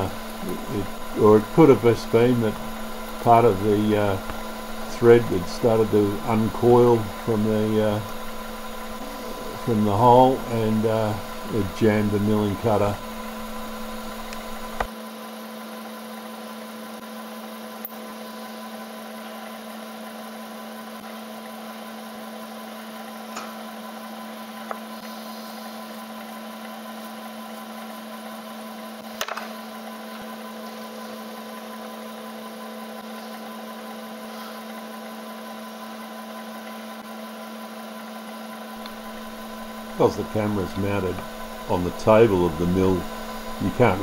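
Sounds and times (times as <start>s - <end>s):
milling machine humming: 0.0s - 14.9s, 16.1s - 44.0s.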